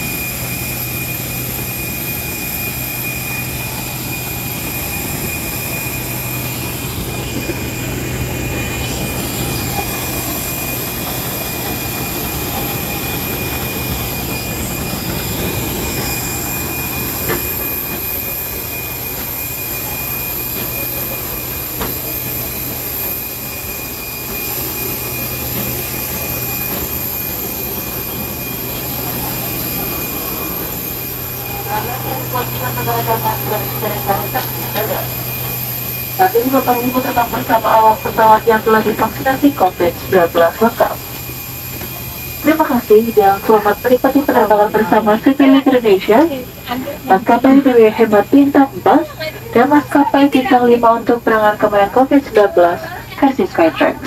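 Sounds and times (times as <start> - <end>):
jet airliners whining and humming: 0.0 - 54.0.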